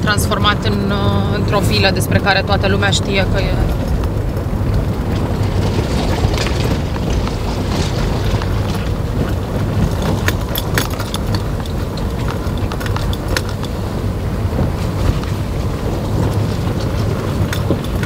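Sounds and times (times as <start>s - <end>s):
car engine and tyre rumble: 0.0s - 18.0s
stones crunching under wheels: 0.0s - 18.0s.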